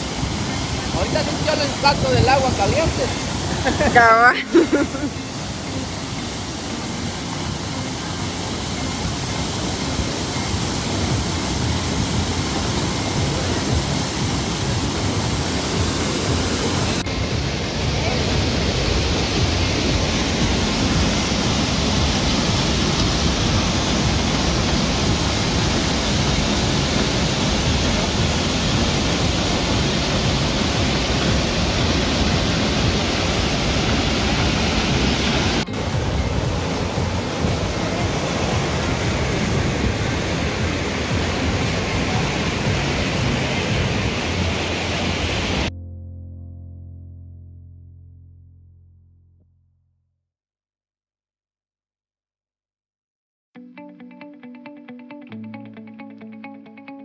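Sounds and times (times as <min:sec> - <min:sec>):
water rushing over rocks: 0:00.0 - 0:45.7
white water hissing between boulders: 0:00.0 - 0:45.7.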